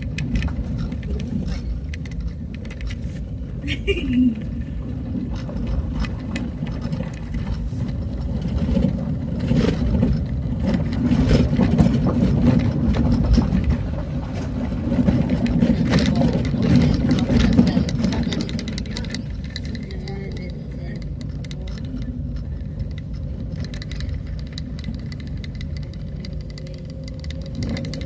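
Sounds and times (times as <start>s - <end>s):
rattles and knocks: 0.0s - 28.0s
vehicle engine and road rumble: 0.0s - 28.0s.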